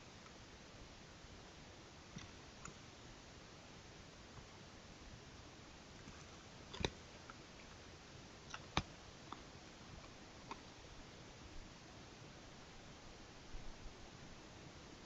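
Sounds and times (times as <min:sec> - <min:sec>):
faint microphone hiss: 0:00.0 - 0:15.0.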